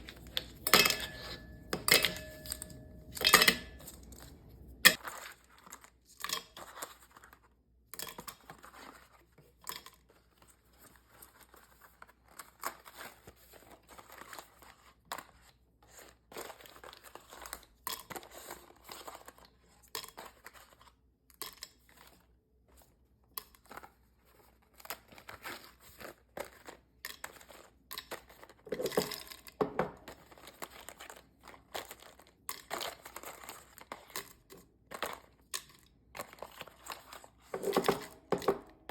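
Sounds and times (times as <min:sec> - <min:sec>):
packaging crinkling and rustling: 0:03.8 - 0:07.6, 0:10.1 - 0:21.0, 0:21.7 - 0:38.3.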